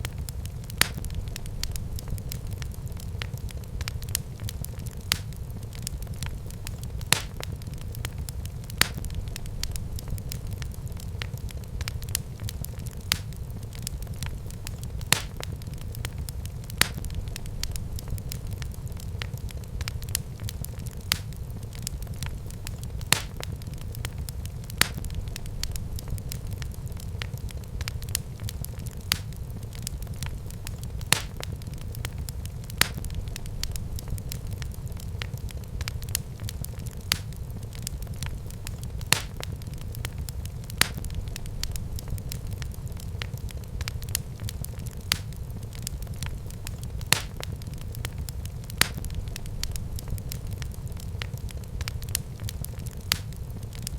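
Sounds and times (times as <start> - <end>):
sharp fire pops: 0.0 - 53.9
wood fire crackling: 0.0 - 53.9.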